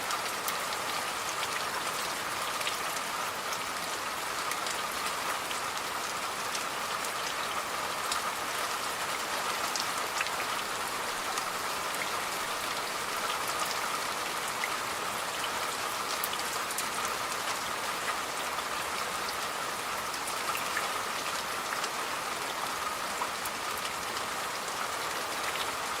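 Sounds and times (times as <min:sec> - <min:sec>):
raindrops ticking on a surface: 0:00.0 - 0:26.0
steady rain falling: 0:00.0 - 0:26.0.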